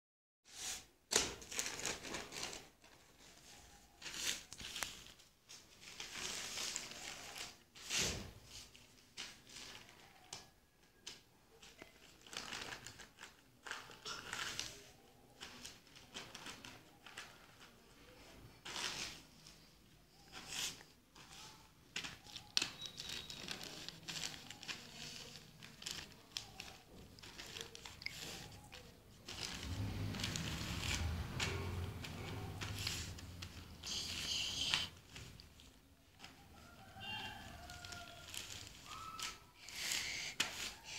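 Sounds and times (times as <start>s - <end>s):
newspaper rustling and crinkling: 0.5s - 40.9s.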